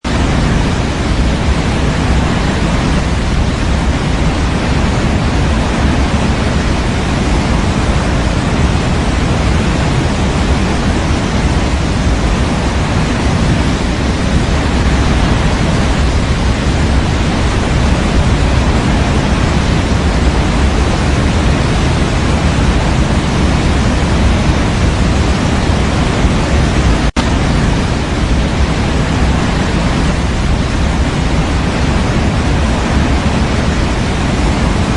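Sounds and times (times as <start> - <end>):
steady white noise hiss: 0.0 - 34.9.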